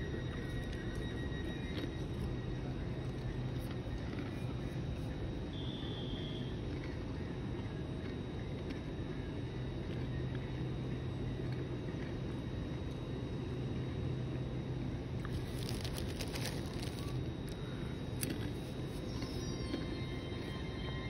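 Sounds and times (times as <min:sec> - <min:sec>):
train low hum: 0:00.0 - 0:13.0, 0:13.6 - 0:21.0.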